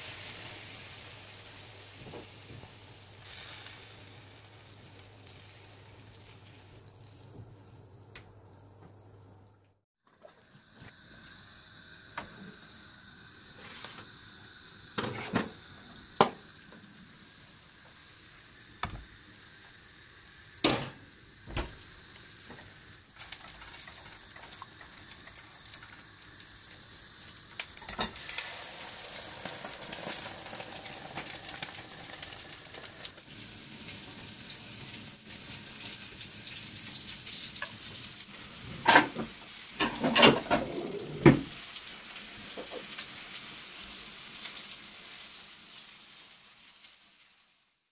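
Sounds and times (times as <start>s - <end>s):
food sizzling: 0.0s - 47.9s.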